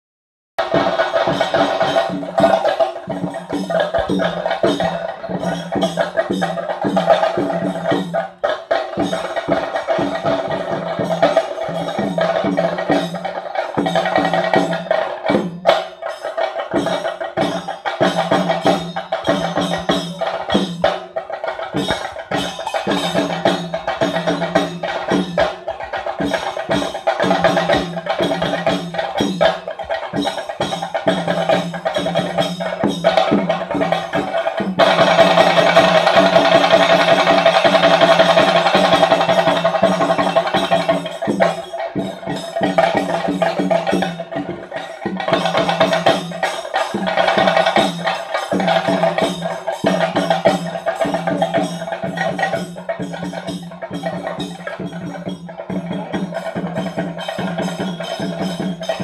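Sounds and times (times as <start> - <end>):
drum and cymbal ensemble: 0.6 - 59.0.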